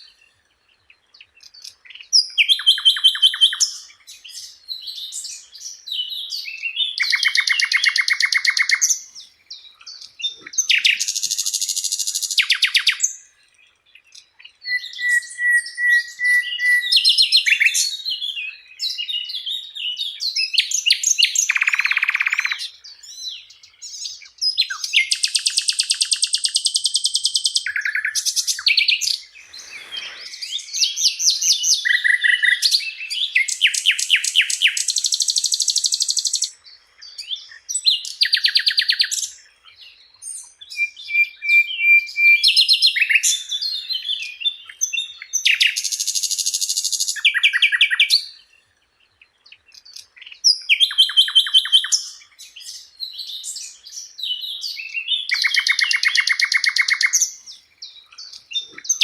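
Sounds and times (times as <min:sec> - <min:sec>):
flycatcher singing trills: 0:00.0 - 0:59.0.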